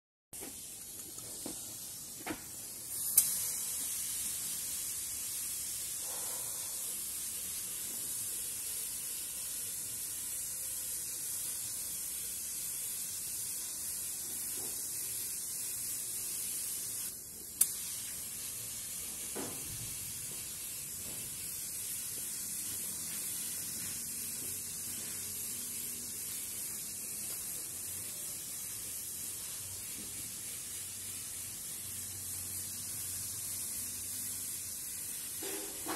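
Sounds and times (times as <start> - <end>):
spray gun hissing: 0.4 - 35.9.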